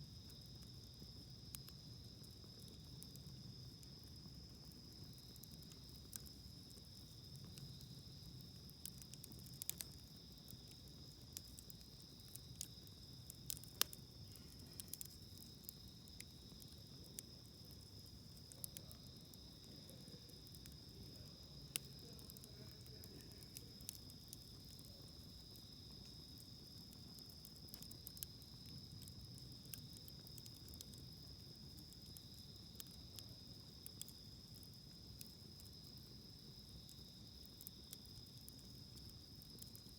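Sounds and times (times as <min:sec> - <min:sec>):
campfire crackling and popping: 0:00.0 - 0:39.9
insects chirring: 0:00.0 - 0:39.9.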